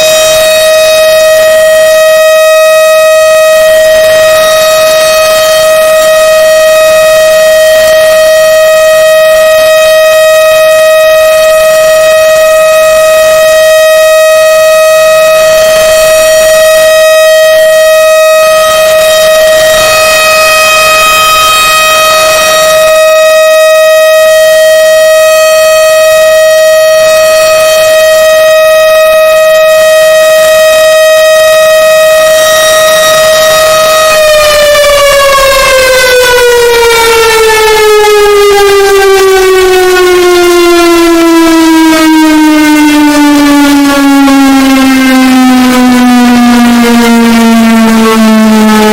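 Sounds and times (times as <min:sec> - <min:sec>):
civil defense siren: 0:00.0 - 0:48.9.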